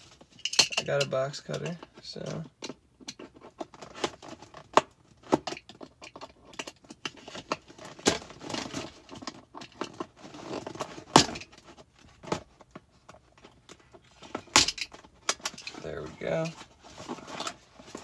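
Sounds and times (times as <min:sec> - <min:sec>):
packaging rustling and scraping: 0:03.1 - 0:18.0.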